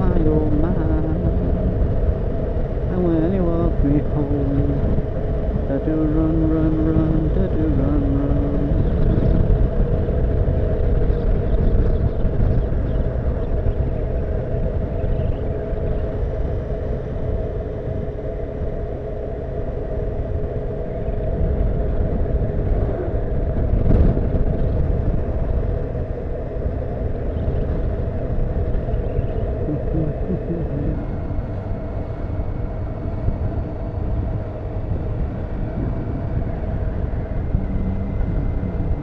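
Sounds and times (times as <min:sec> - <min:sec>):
motorcycle engine drone: 0:00.0 - 0:39.0
wind rumble on microphone: 0:00.0 - 0:39.0.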